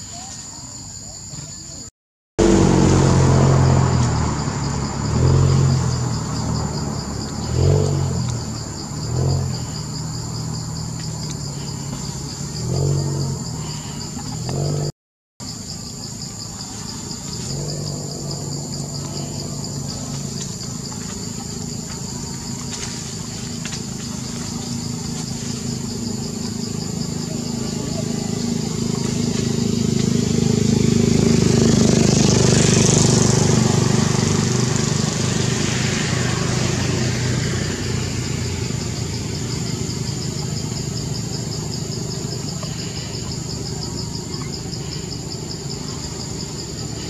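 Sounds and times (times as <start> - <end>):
insects buzzing: 0.0 - 47.0
vehicle engine revving: 2.4 - 15.0, 16.6 - 47.0.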